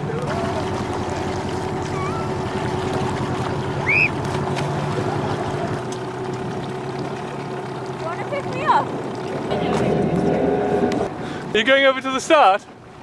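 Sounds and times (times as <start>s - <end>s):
motorboat engine humming: 0.0s - 13.0s
water: 0.0s - 13.0s
wind: 0.0s - 13.0s.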